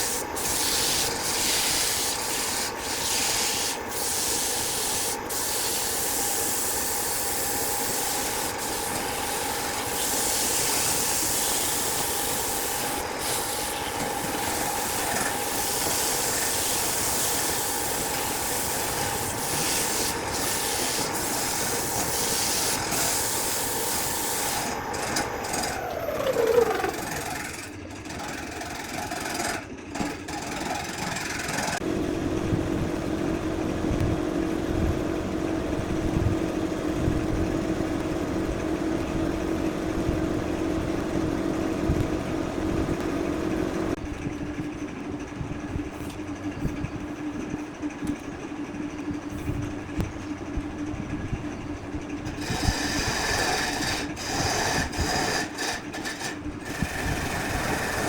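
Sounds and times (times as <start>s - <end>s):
motor hum: 0.0s - 28.0s, 31.8s - 58.0s.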